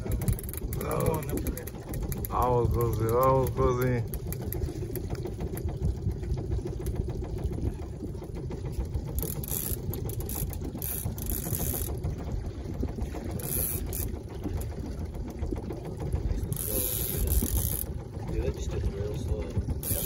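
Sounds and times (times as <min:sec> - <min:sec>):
boat motor rumble: 0:00.0 - 0:20.0
fishing reel gears whirring: 0:00.0 - 0:20.0.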